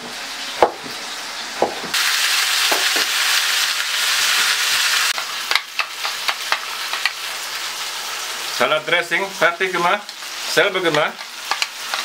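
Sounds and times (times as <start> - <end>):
steaks sizzling in a pan: 0.0 - 12.0.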